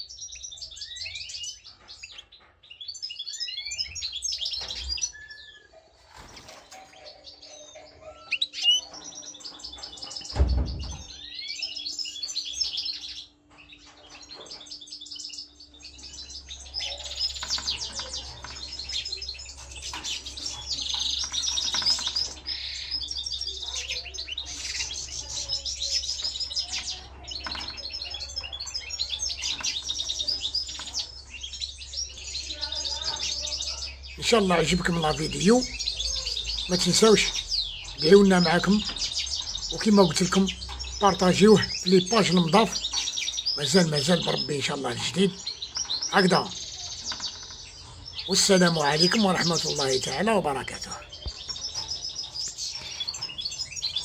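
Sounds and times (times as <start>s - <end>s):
goldfinch twittering song: 8.1s - 54.0s.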